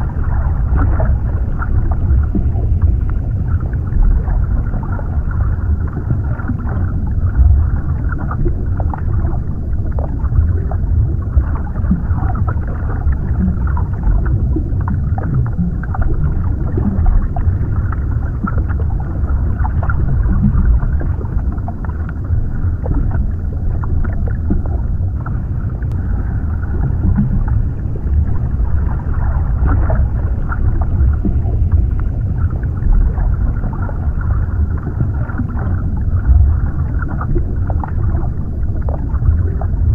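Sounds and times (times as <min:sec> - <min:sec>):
muffled low rumble of water: 0:00.0 - 0:39.9
small bubbles and crackles: 0:00.0 - 0:39.9.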